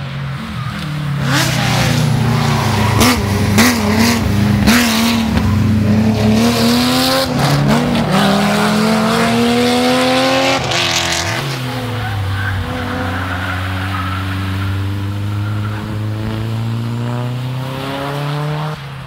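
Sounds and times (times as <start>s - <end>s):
rally car engine revving: 0.3s - 19.0s.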